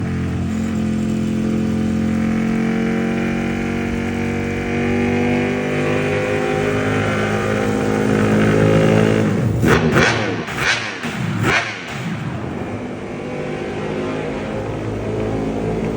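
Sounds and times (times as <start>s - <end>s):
superbike engine revving: 0.0s - 15.9s.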